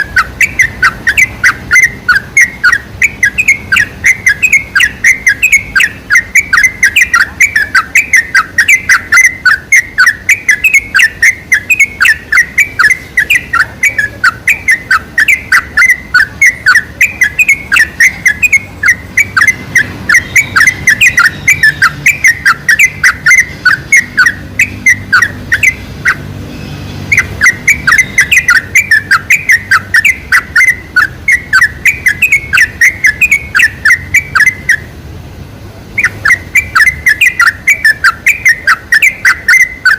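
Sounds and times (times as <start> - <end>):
bulbul singing chirping notes: 0.0 - 35.1, 35.8 - 39.9.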